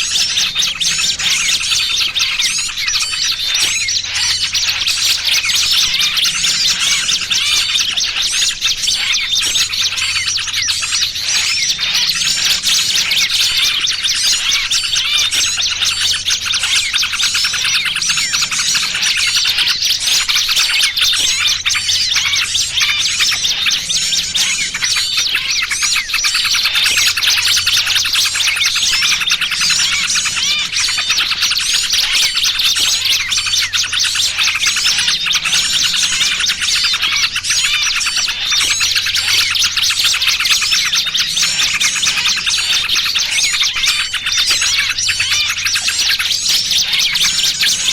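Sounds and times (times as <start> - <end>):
bird distress calls: 0.0 - 47.9
small birds chirping: 0.0 - 47.9.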